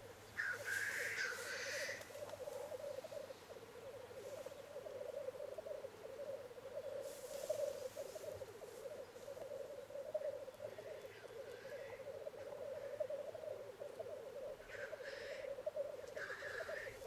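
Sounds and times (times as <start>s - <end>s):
faint hiss: 0.0s - 17.0s
grouse bubbling chorus: 0.3s - 17.0s.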